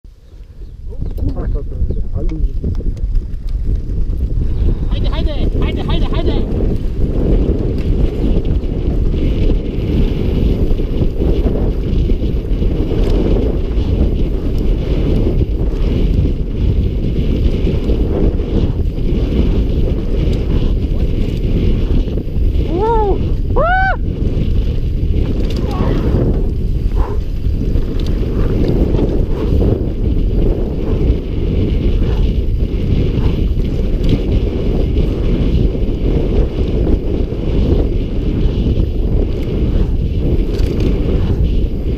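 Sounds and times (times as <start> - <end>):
bike tyre and trail rumble: 0.1 - 41.9
wind buffeting microphone: 0.1 - 41.9.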